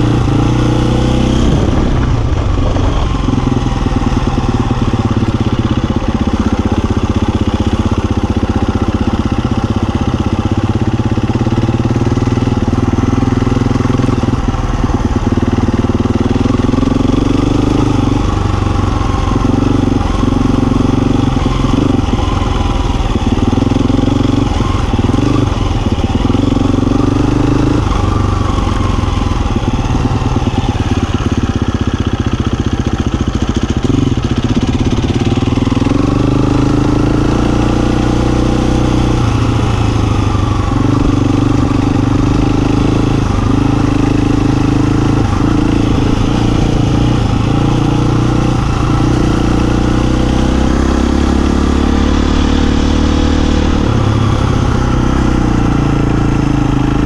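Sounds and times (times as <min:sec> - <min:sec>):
dirt bike engine revving: 0:00.0 - 0:31.6, 0:32.2 - 0:57.0.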